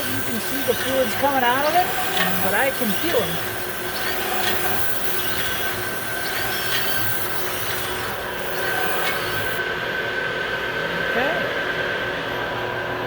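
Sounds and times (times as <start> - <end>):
thin high whine: 0.0 - 11.5
machine hiss and hum: 0.0 - 13.0.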